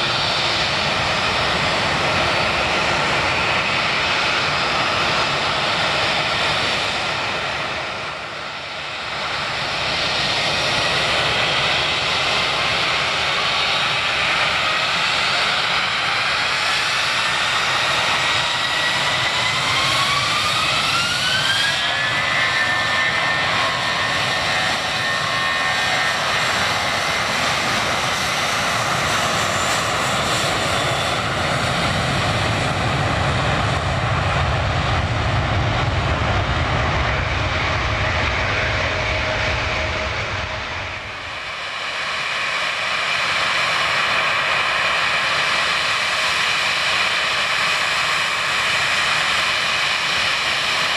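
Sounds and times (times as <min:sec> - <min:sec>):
jet engines whining: 0:00.0 - 0:50.9
loud jet noise: 0:00.0 - 0:50.9.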